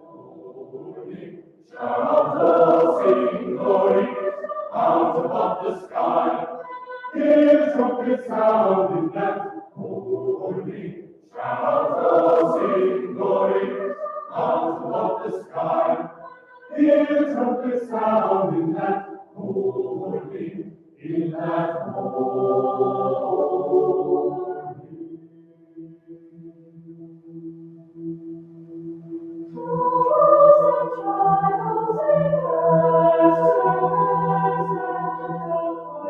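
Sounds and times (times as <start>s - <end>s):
mixed choir singing: 0.0s - 25.3s, 29.5s - 36.0s.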